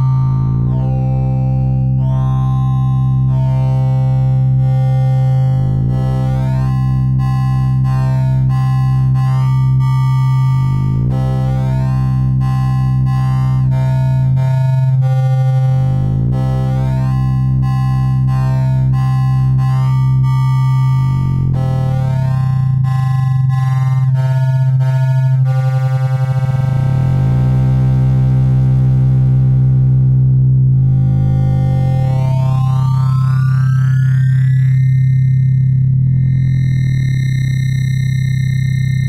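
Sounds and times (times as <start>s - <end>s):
synthesized oscilloscope music: 0.0s - 39.0s.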